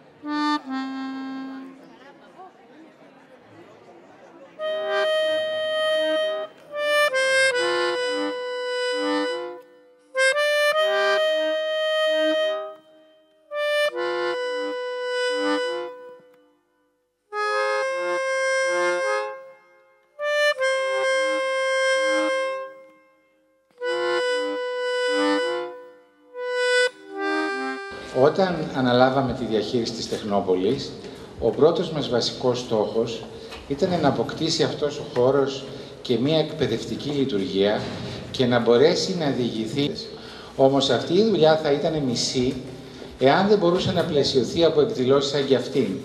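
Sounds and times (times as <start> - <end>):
slow accordion tune: 0.0 - 2.2, 4.6 - 38.3, 39.4 - 46.0.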